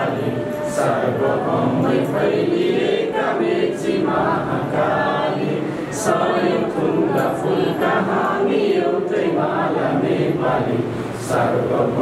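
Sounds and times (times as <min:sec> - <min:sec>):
group singing in unison: 0:00.0 - 0:12.0.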